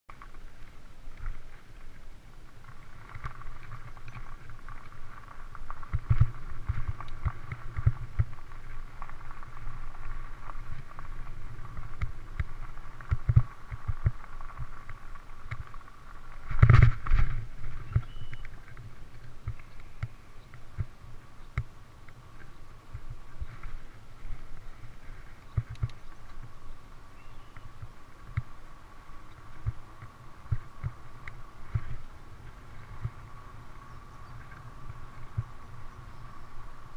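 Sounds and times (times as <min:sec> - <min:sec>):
bike tyres rolling over gravel: 0:00.1 - 0:36.9.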